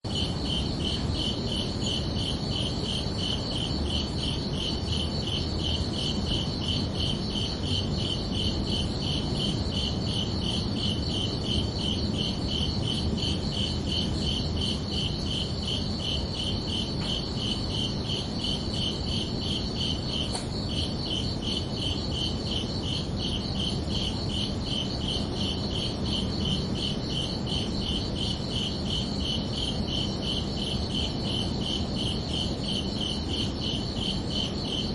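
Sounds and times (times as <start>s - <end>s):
crickets chirping: 0.1s - 34.9s
high insect trill: 0.1s - 34.9s.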